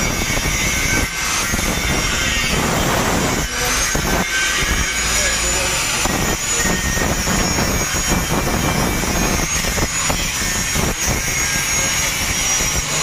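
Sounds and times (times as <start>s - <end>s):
steady mechanical noise with whine: 0.0s - 13.0s.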